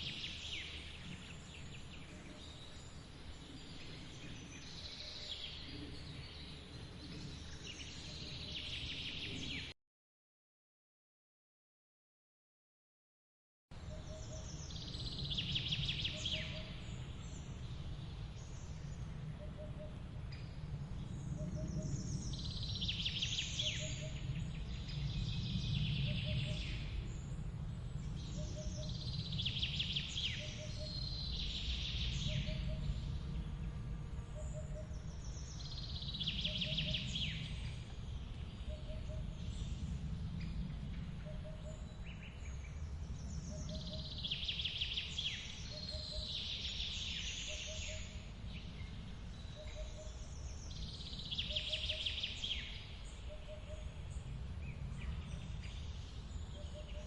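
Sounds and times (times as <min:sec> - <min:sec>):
songbird singing: 0:00.0 - 0:09.8, 0:13.7 - 0:57.0.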